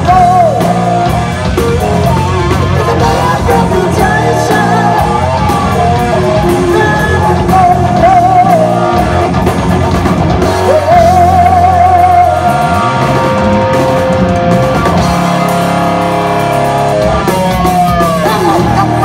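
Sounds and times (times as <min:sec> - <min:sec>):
hard rock band playing live: 0:00.0 - 0:19.0.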